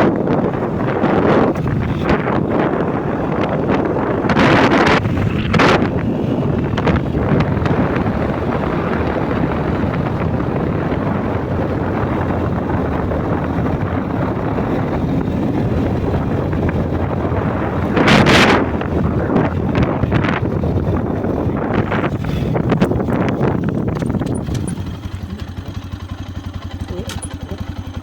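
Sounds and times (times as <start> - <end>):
wind on microphone: 0.0 - 25.9
low rumble: 0.0 - 28.0.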